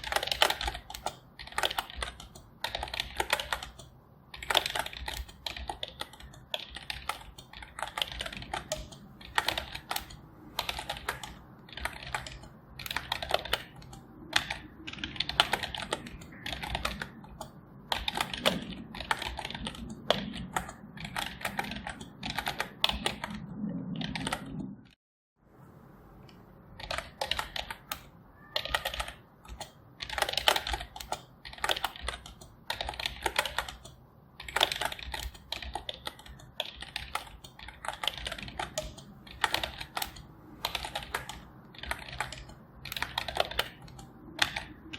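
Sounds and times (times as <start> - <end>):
keyboard typing: 0.0 - 25.0, 26.2 - 44.9.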